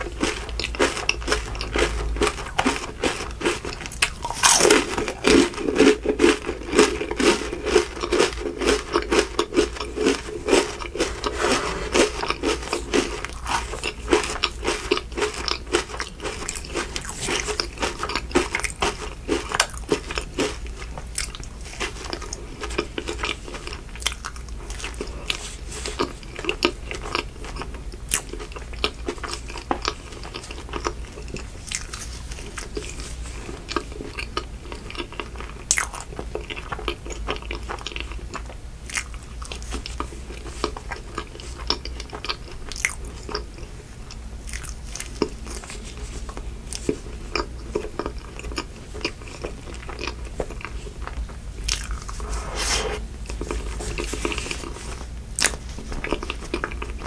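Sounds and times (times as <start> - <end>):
crackly chewing: 0.0 - 52.3, 53.2 - 57.0.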